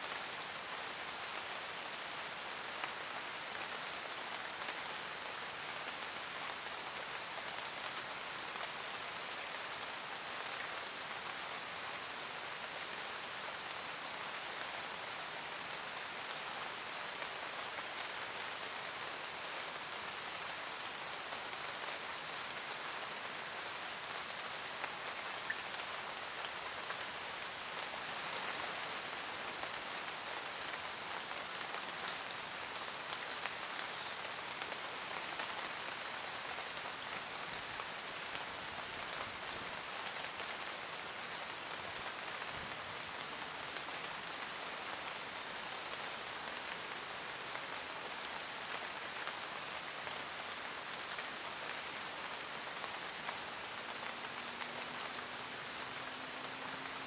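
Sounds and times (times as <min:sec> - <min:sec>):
steady rain falling: 0:00.0 - 0:57.0
raindrops ticking on leaves: 0:00.1 - 0:57.0.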